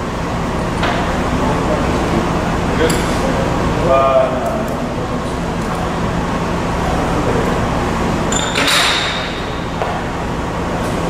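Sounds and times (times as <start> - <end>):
folding machine humming: 0.0 - 11.0.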